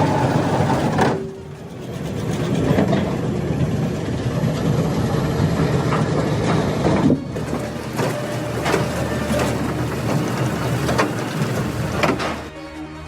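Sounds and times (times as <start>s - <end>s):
heavy machinery engine drone: 0.0s - 13.0s.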